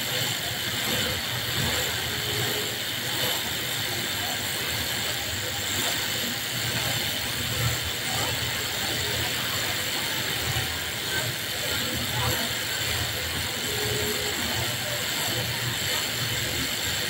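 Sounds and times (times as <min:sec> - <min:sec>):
machine high hiss: 0:00.0 - 0:17.0.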